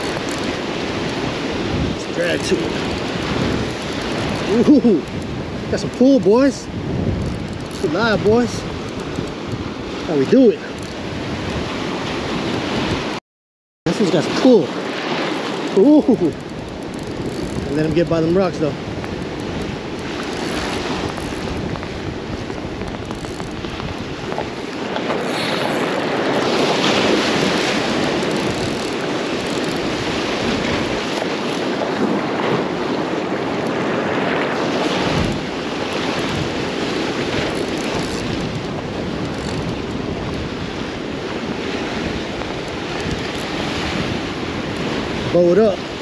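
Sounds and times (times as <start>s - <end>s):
surf breaking against rocks: 0.0s - 13.2s, 13.9s - 46.0s
wind buffeting microphone: 0.0s - 13.2s, 14.2s - 46.0s.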